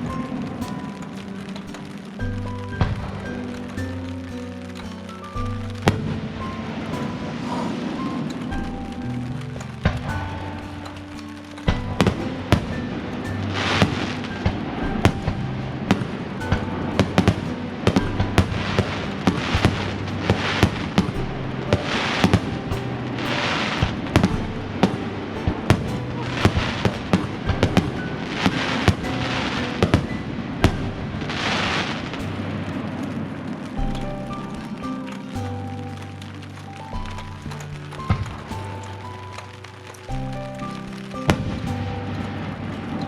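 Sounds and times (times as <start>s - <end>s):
fireworks bangs: 0.0s - 43.0s
fireworks crackling hiss: 0.0s - 43.0s
music with held notes: 0.0s - 43.0s.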